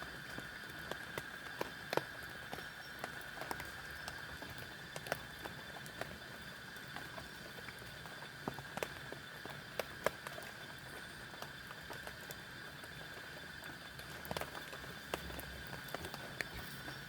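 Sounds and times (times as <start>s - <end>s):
raindrops tapping: 0.0s - 17.0s
steady rain hiss: 0.0s - 17.0s.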